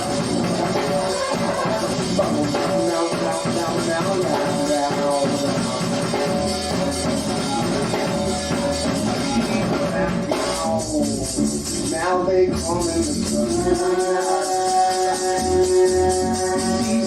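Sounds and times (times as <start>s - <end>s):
bass line: 0.0s - 17.0s
live rock band playing: 0.0s - 17.0s.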